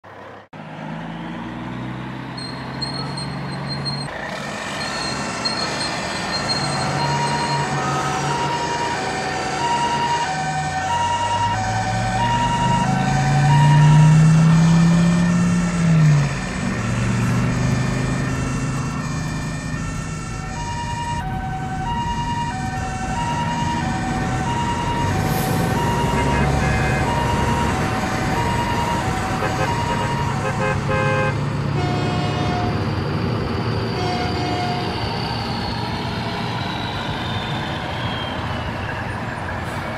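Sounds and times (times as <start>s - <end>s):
vehicle engine: 0.0s - 39.9s
two-tone emergency siren: 0.6s - 39.9s.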